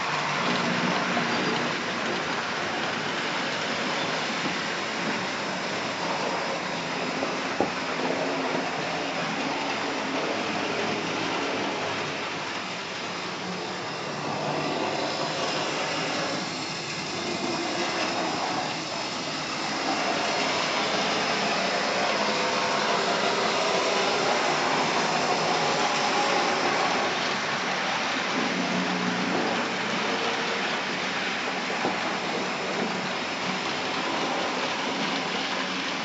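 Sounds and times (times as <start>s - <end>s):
model trains whirring: 0.0s - 36.0s.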